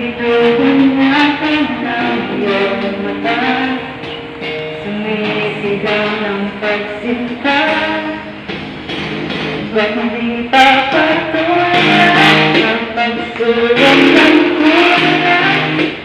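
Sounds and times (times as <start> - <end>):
woman singing into microphone: 0.0 - 8.5, 9.6 - 16.0
backing music track: 0.0 - 16.0.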